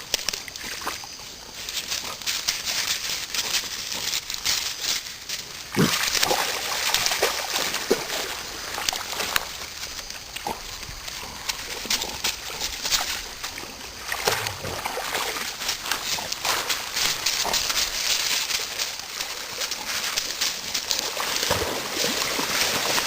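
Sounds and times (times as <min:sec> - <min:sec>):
dogs splashing in water: 0:00.0 - 0:23.0.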